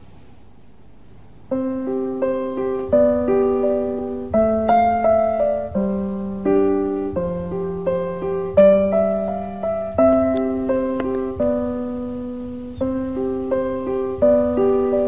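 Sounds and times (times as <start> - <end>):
faint hiss: 0.0 - 15.0
piano music: 1.4 - 15.0.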